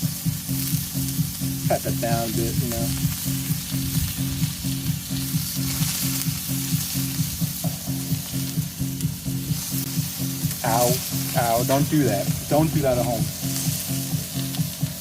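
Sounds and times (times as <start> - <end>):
low pulsing hum: 0.0 - 15.0
patties sizzling on a grill: 0.0 - 15.0.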